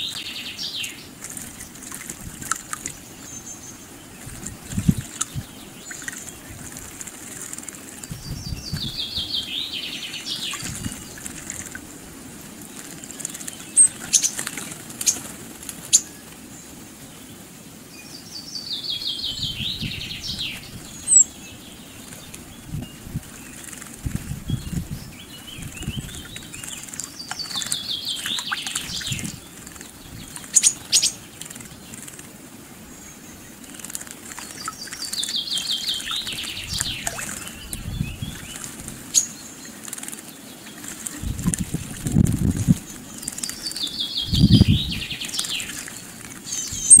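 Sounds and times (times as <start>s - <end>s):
birds splashing in water: 0.0s - 17.5s, 18.8s - 24.5s, 25.2s - 47.0s.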